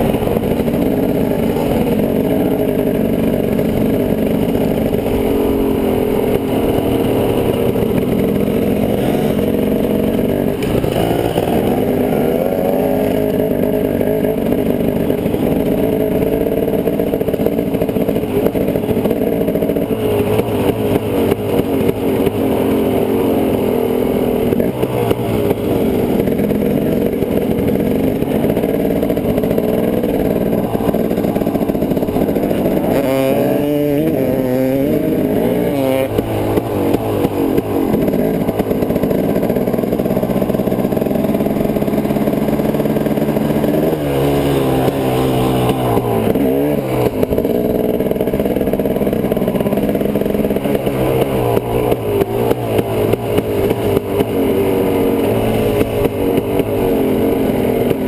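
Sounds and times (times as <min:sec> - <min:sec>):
off-road vehicle engine: 0:00.0 - 0:58.0.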